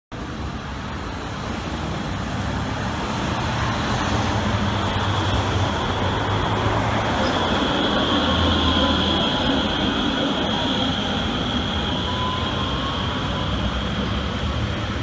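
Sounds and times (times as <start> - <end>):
streetcar running noise: 0.1 - 15.0
cars passing: 0.2 - 15.0.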